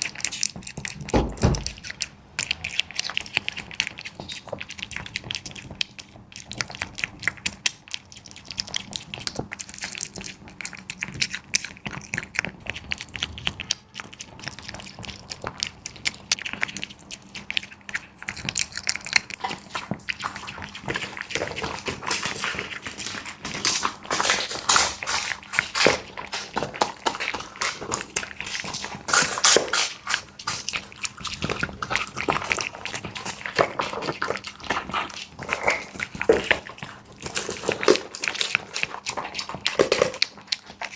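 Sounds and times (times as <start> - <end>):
dog chewing and crunching: 0.0 - 40.9.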